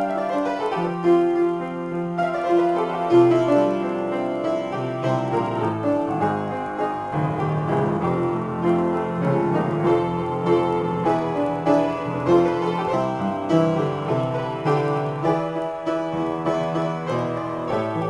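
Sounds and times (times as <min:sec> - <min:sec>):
solo piano improvisation: 0:00.0 - 0:18.0.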